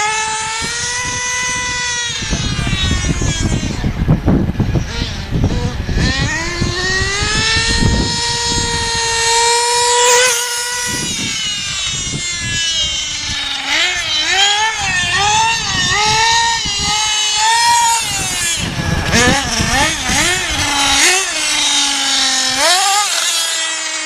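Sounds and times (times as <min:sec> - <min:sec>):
rc car engine revving: 0:00.0 - 0:24.0.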